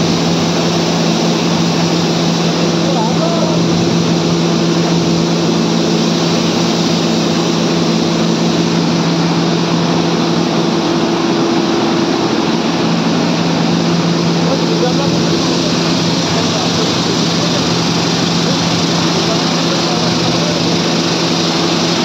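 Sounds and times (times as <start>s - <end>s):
machine motor hum: 0.0s - 22.0s.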